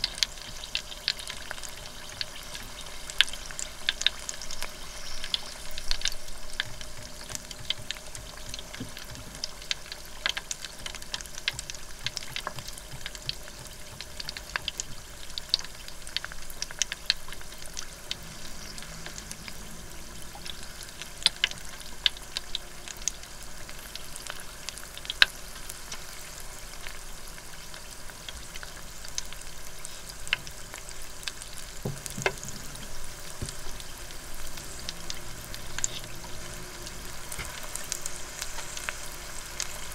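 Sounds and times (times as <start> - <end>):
food sizzling in hot oil: 0.0 - 39.9
oil crackling and popping: 0.0 - 39.9.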